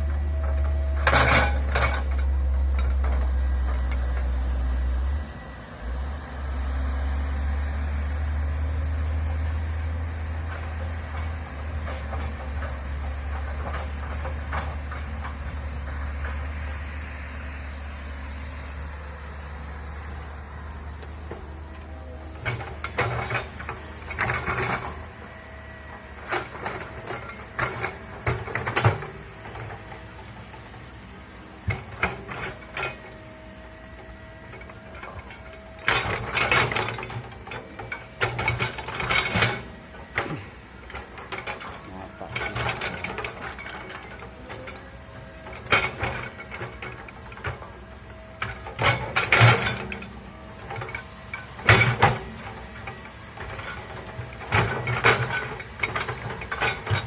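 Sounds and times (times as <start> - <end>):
excavator clanking and clattering: 0.0 - 4.6, 7.9 - 17.0, 18.5 - 57.0
excavator engine running: 0.0 - 57.0.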